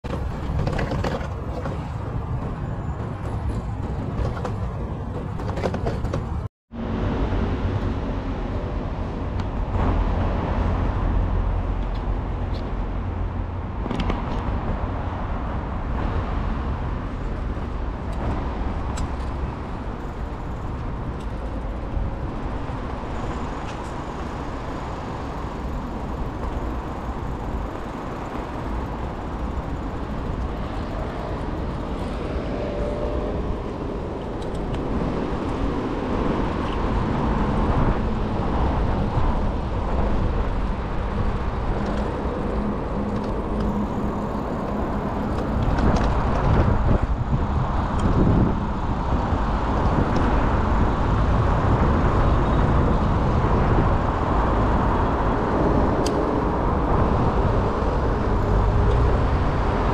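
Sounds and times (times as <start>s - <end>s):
passing car engines and tyres: 0.0s - 59.9s.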